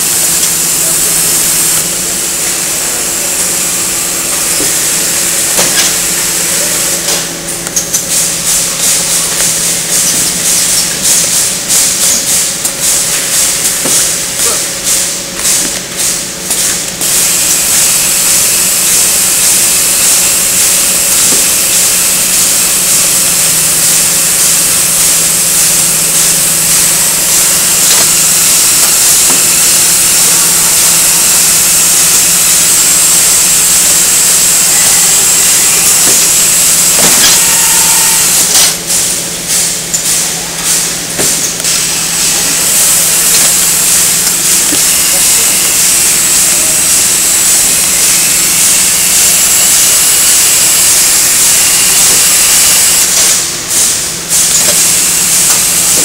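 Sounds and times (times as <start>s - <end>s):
packing machine hiss and hum: 0.0s - 56.0s
quick rhythmic machine pulses: 0.0s - 56.0s.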